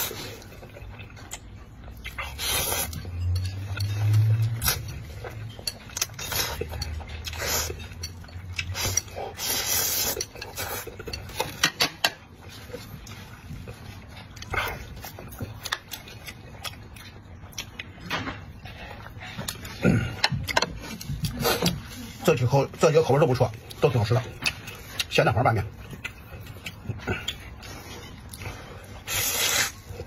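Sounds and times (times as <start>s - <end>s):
person slurping and chewing noodles: 0.0s - 30.0s.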